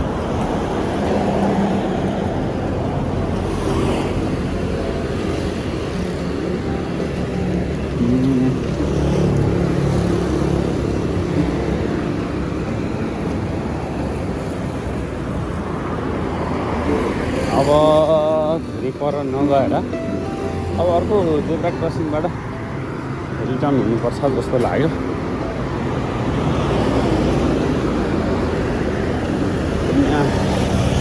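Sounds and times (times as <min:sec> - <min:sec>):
vehicles driving past: 0:00.0 - 0:31.0.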